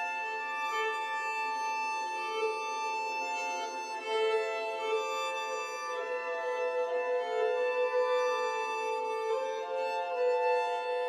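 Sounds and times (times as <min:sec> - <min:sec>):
slow violin music: 0:00.0 - 0:11.0.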